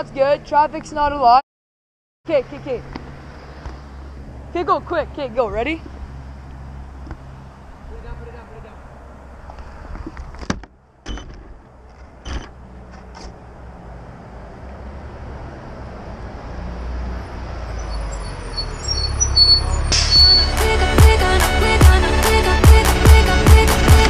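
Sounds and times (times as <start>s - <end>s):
vehicle engine rumble: 2.3s - 24.0s.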